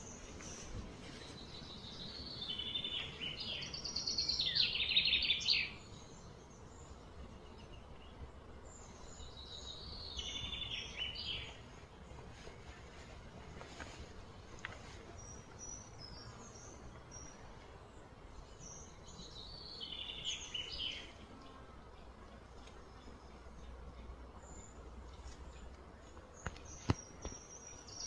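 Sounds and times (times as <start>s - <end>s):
songbird singing: 0.0s - 28.0s.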